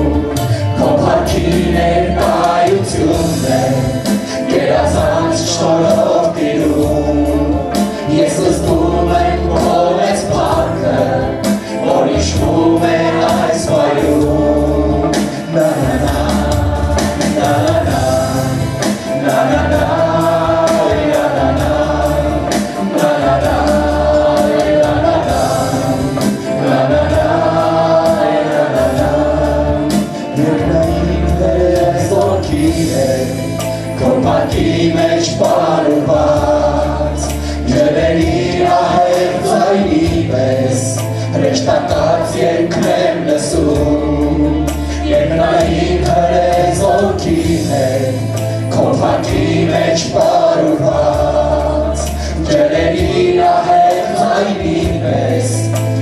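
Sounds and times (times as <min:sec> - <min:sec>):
instrumental accompaniment with bass: 0:00.0 - 0:56.0
man singing into microphone: 0:00.0 - 0:56.0
voices singing along: 0:00.0 - 0:56.0.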